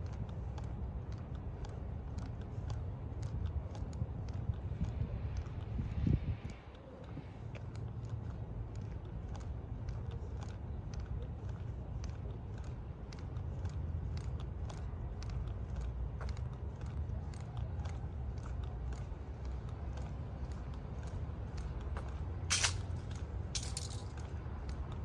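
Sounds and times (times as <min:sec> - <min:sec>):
footsteps on sidewalk: 0:00.0 - 0:25.0.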